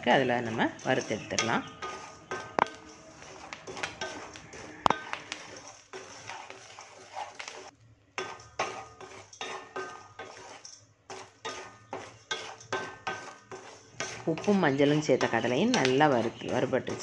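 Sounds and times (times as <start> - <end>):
spatula scraping salt in steel pan: 0.0 - 17.0.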